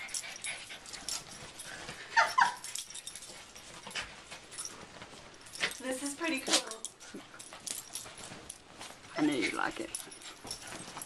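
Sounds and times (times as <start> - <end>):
quilt rustling: 0.0 - 11.0.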